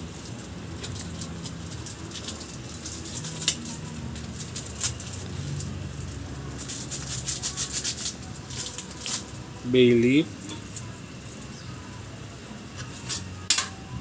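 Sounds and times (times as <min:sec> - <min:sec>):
broth bubbling in a pot: 0:00.0 - 0:14.0
low steady hum: 0:00.0 - 0:14.0.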